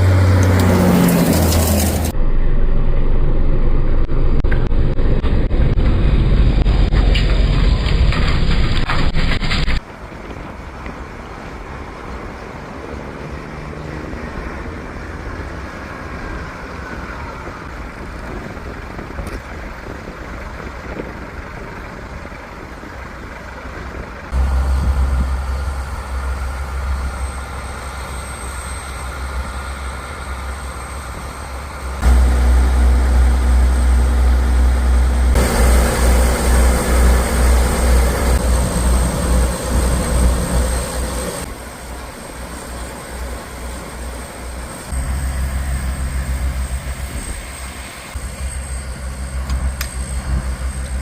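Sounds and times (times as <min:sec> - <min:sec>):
heavy vehicle engines running: 0:00.0 - 0:51.0.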